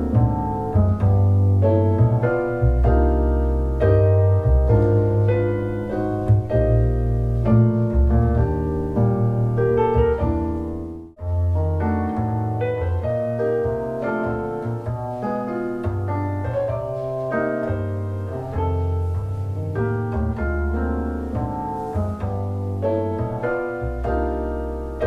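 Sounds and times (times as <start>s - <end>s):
deep sustained bass notes: 0.0s - 25.0s
piano music: 0.0s - 25.0s.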